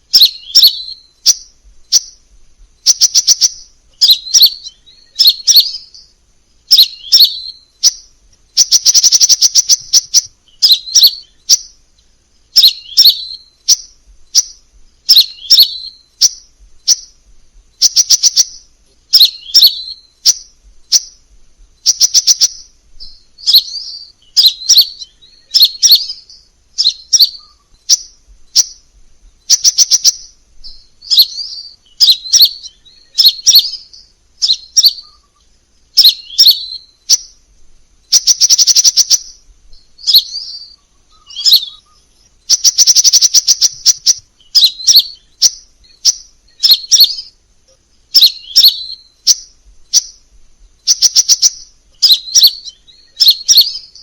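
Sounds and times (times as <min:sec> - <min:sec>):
bird chirping: 0:00.0 - 0:54.0
rapid bird trills: 0:00.0 - 0:54.0.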